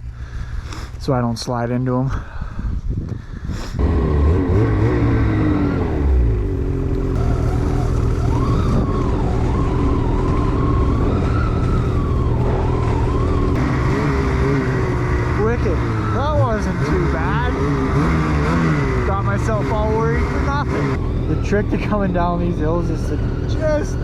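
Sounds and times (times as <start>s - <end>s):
snowmobile engine at low revs: 3.4s - 24.0s.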